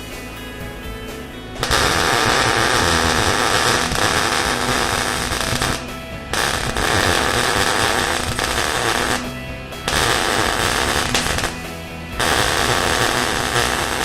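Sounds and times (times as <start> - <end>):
welding arc crackling: 1.6 - 14.0.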